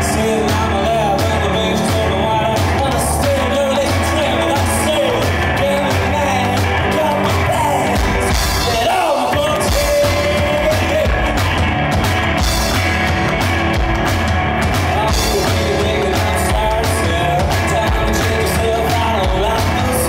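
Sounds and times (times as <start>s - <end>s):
man singing: 0.0s - 11.7s, 14.7s - 20.0s
drums: 0.0s - 20.0s
electric guitar: 0.0s - 20.0s.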